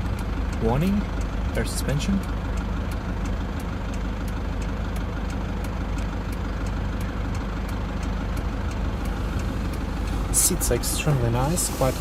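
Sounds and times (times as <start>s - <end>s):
light ticking: 0.0s - 11.8s
car engine idling: 0.0s - 12.0s.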